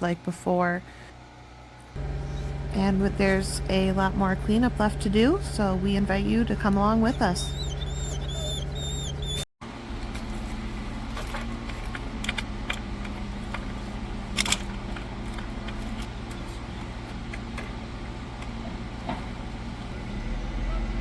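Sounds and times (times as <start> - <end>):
engine running steadily: 0.9 - 21.0.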